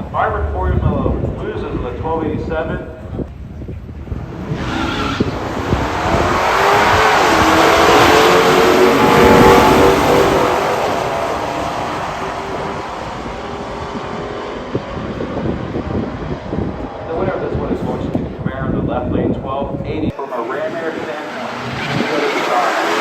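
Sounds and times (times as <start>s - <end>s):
car engines at full throttle: 0.0s - 23.0s.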